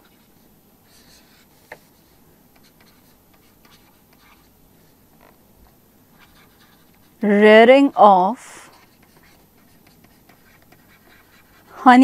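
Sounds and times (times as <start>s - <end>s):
pen scratching on paper: 0.0s - 7.2s, 8.7s - 11.9s.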